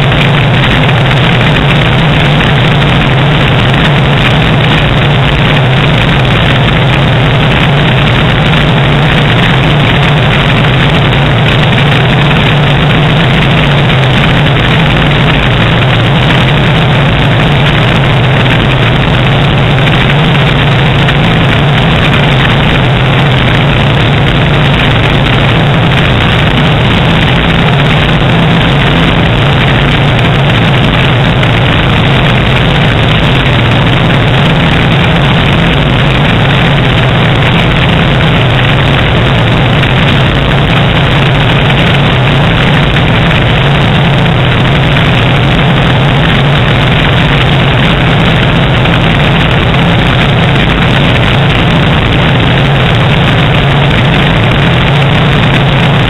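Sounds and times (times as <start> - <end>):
propeller plane engine droning: 0.0 - 56.0
rush of air: 0.0 - 56.0.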